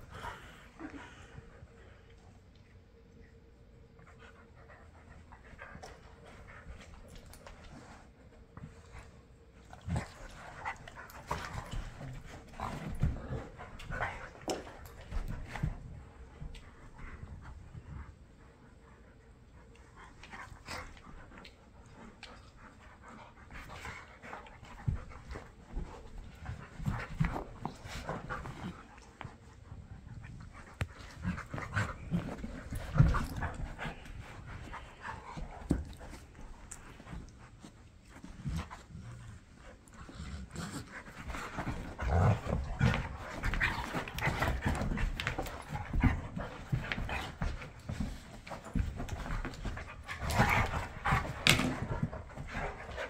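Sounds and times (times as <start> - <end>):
dogs play-wrestling noises: 0.0 - 2.6, 4.0 - 53.0.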